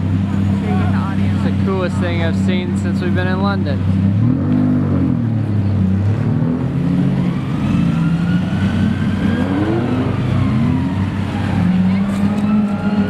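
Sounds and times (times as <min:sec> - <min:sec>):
engine revving: 0:00.0 - 0:13.0
vehicle engines pulling away: 0:00.0 - 0:13.0.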